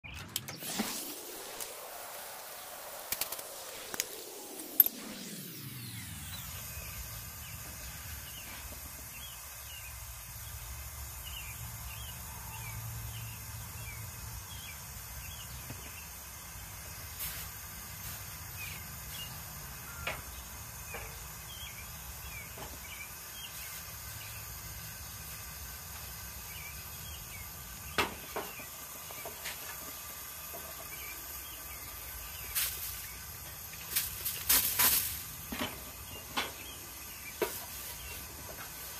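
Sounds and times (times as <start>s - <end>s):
gas burner flame rumbling: 0.9s - 38.9s
small birds chirping: 6.2s - 38.9s.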